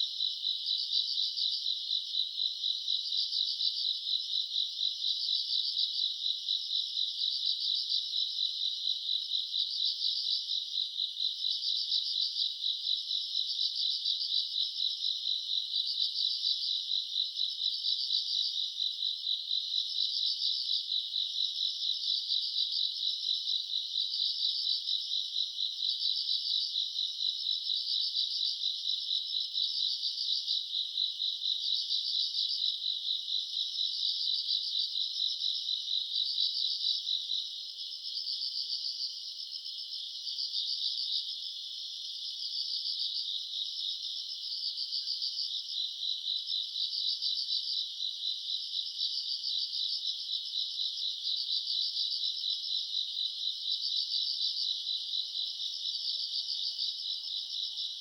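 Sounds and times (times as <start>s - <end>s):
insects chirping in trills: 0.0s - 58.0s.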